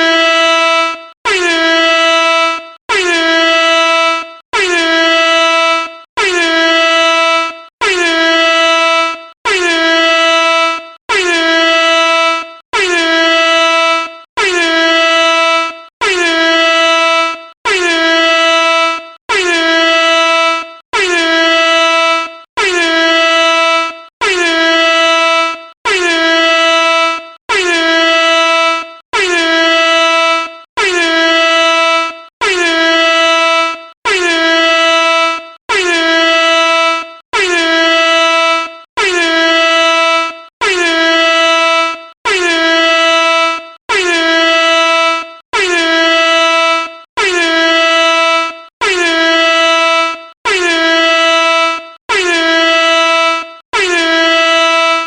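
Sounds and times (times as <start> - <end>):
air horn blasts: 0.0 - 55.0.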